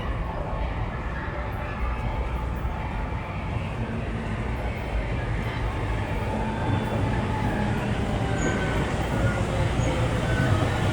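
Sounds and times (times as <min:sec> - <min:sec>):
train rumbling: 0:00.0 - 0:10.9.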